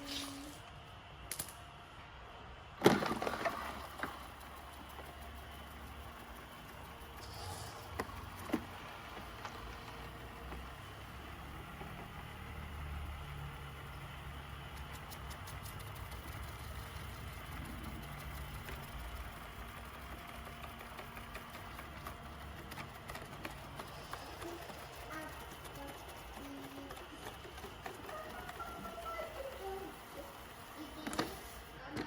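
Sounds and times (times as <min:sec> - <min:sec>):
robot vacuum humming: 0:02.8 - 0:32.0.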